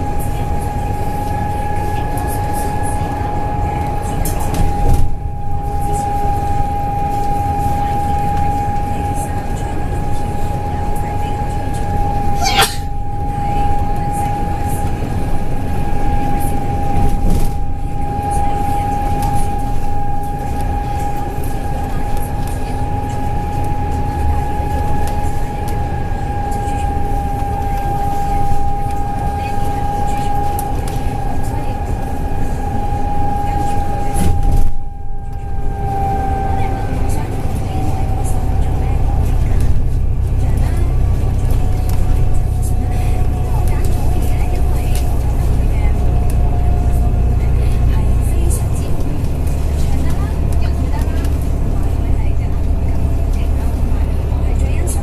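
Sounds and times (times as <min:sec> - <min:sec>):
bus drivetrain rumble: 0:00.0 - 0:55.0.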